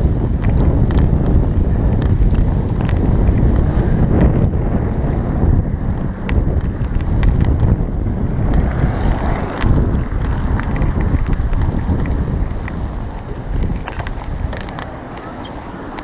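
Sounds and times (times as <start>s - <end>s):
sharp clicks and rattles: 0.0s - 16.0s
wind buffeting microphone: 0.0s - 16.0s.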